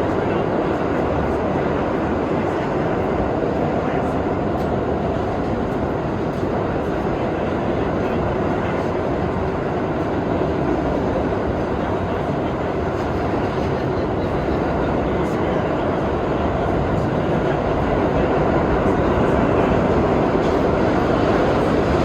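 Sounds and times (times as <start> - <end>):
subway train wheels rumbling on rail: 0.0 - 22.0.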